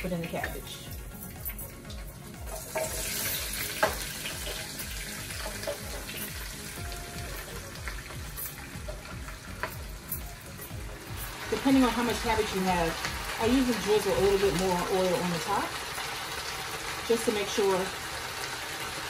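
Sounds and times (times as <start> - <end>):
cabbage sizzling in hot oil: 0.0 - 19.0.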